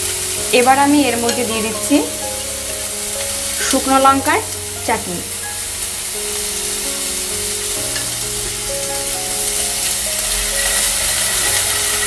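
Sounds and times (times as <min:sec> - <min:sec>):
chicken sizzling in hot oil: 0:00.0 - 0:12.0
soft background music: 0:00.0 - 0:12.0.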